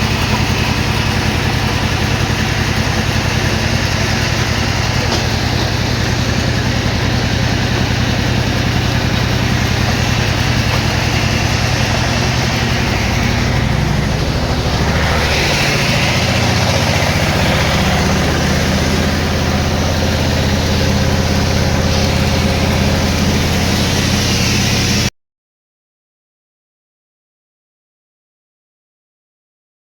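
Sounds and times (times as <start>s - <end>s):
engine running: 0.0s - 25.1s.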